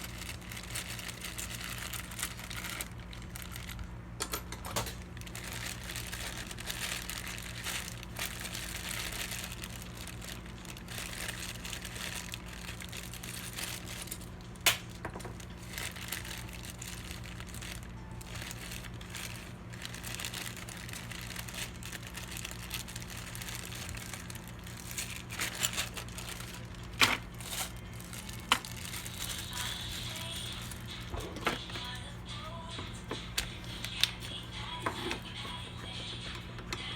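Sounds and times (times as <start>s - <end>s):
plastic packaging crinkling: 0.0s - 36.9s
steady low hum: 0.0s - 36.9s.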